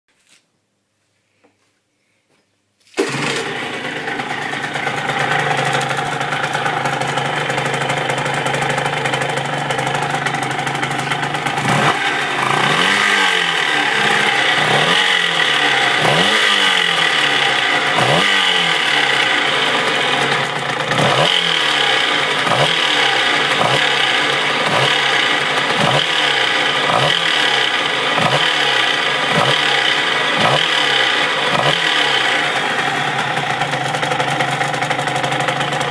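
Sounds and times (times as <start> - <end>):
moped engine idling and revving: 3.0 - 35.9.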